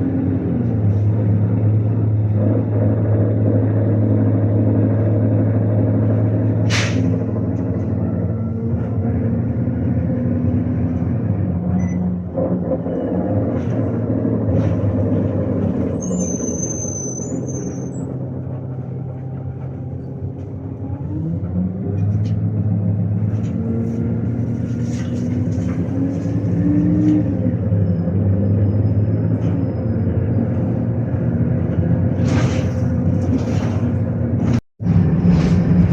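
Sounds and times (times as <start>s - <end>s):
bus diesel engine pulling away: 0.0s - 35.9s.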